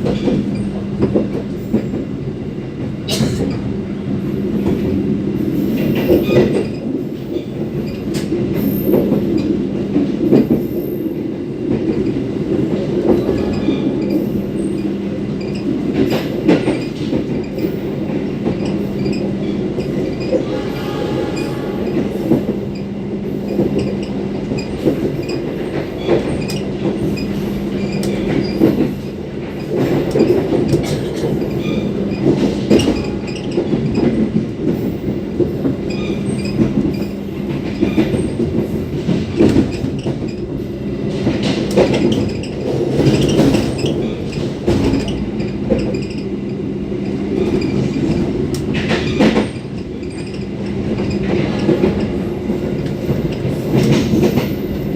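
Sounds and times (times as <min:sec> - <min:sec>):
clacks over rail joints: 0:00.0 - 0:02.1, 0:05.7 - 0:22.8, 0:23.5 - 0:46.3, 0:47.0 - 0:54.9
train wheels rumbling: 0:00.0 - 0:54.9.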